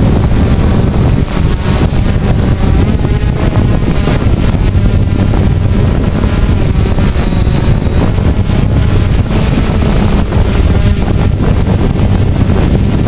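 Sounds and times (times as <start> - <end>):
drone propellers buzzing: 0.0 - 13.0
wind buffeting microphone: 0.0 - 13.0.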